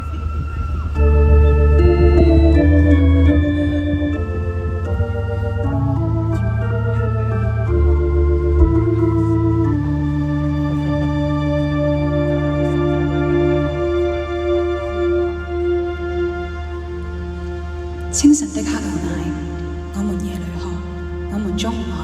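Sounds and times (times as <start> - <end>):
organ chords: 0.0 - 20.2
low sustained bass: 0.0 - 22.0.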